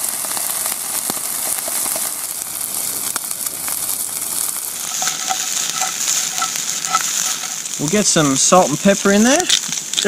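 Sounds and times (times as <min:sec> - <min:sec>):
shrimp sizzling in butter: 0:00.0 - 0:10.0
small pops and crackles: 0:00.0 - 0:10.0.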